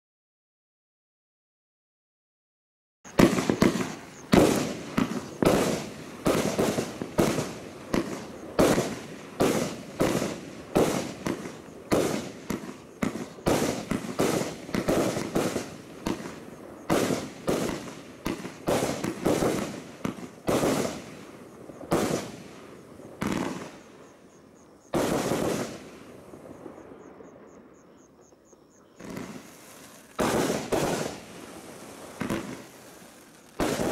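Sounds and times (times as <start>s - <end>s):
firework shots firing: 3.1s - 24.1s, 24.9s - 27.4s, 29.0s - 33.9s.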